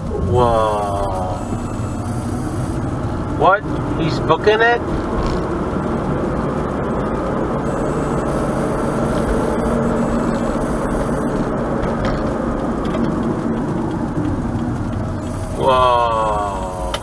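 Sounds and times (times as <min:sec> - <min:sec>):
car driving at highway speed: 0:00.0 - 0:17.0.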